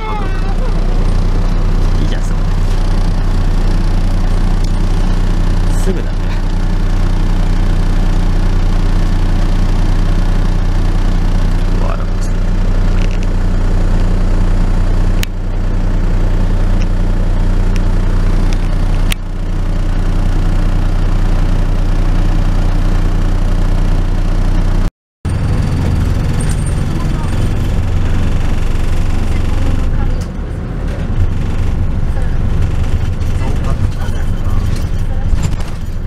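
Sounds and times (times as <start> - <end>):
bus engine idling: 0.0 - 36.0.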